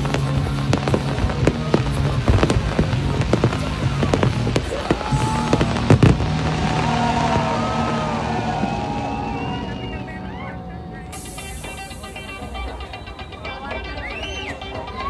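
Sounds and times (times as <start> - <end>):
fireworks bursting: 0.0 - 10.2, 11.1 - 13.1
music: 0.0 - 15.0.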